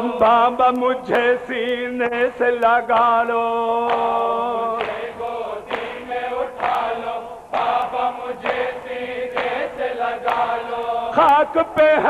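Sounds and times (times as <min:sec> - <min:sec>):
men chanting a lament: 0:00.0 - 0:12.0.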